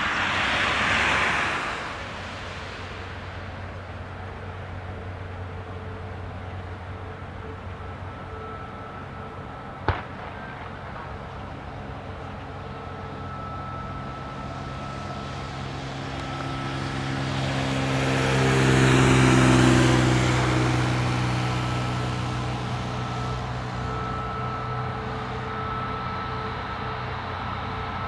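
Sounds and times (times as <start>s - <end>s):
passing aircraft falling in pitch: 0.0s - 5.5s, 6.4s - 28.0s
jet engines whining: 0.0s - 28.0s.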